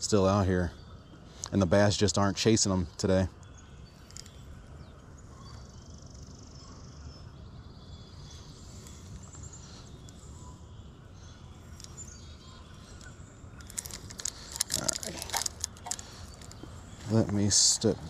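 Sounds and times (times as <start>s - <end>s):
bird trills and chirps: 0.0s - 18.0s.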